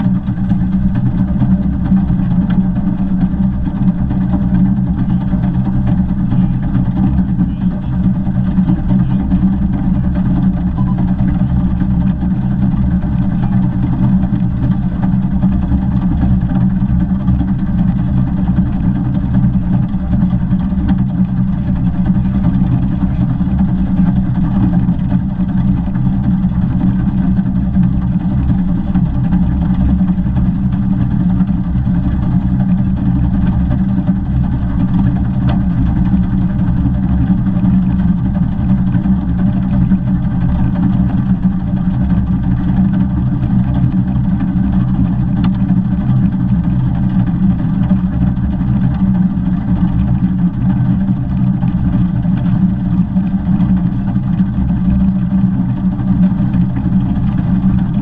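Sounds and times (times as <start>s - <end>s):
steam locomotive running rumble: 0.0s - 58.0s.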